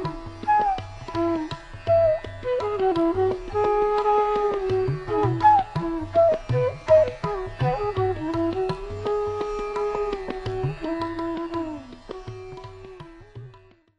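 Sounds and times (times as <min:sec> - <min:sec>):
hand drum strokes: 0:00.0 - 0:12.4.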